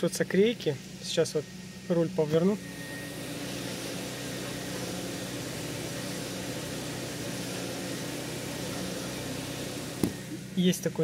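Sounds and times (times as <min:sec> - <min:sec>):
engine and power steering hum: 0:00.0 - 0:11.0.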